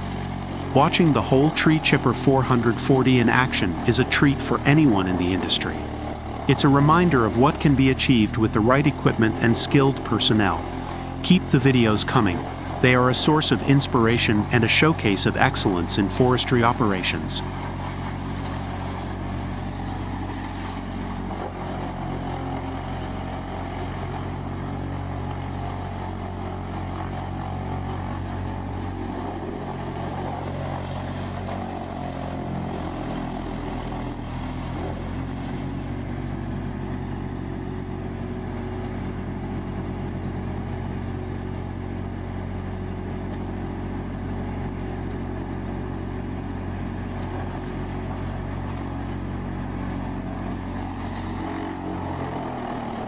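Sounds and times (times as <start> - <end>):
diesel engine drone: 0.0 - 53.0.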